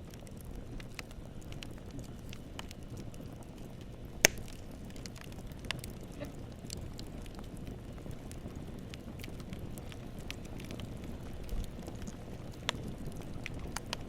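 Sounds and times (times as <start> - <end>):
campfire flames rushing: 0.0 - 14.0
crackles and pops of burning wood: 0.0 - 14.0.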